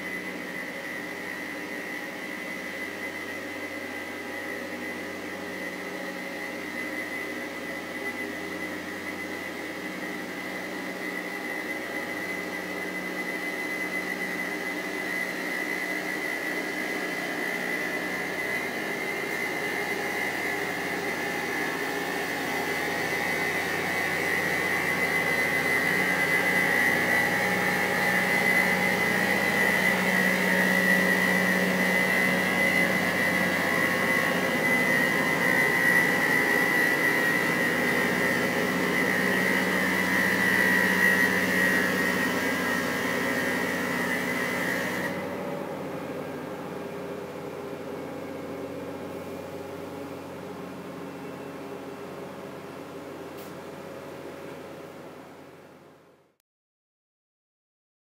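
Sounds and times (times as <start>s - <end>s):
rail grinding with high whine: 0.0s - 53.0s
machine engine running: 0.0s - 54.4s.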